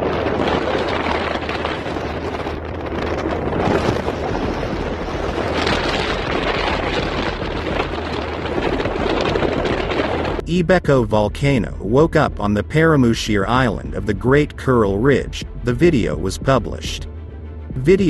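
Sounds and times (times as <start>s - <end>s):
constant low hum: 0.0s - 18.0s
wind buffeting microphone: 0.0s - 18.0s.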